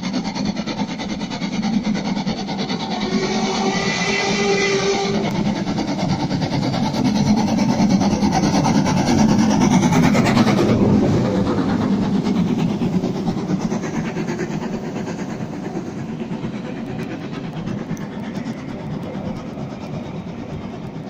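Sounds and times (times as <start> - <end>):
coaches rumbling over rails: 2.8 - 21.0.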